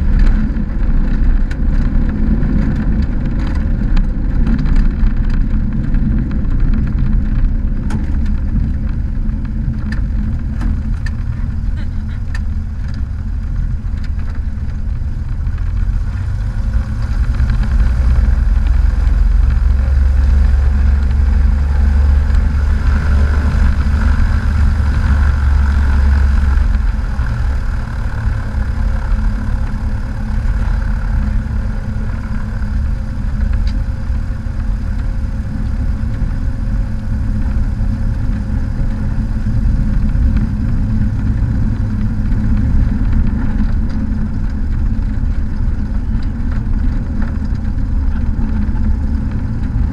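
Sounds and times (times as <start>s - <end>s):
propeller plane engine running: 0.0s - 49.9s.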